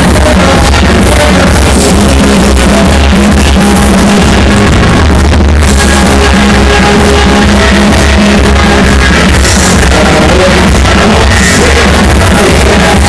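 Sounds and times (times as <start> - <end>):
loud dance music with heavy bass: 0.0 - 13.0.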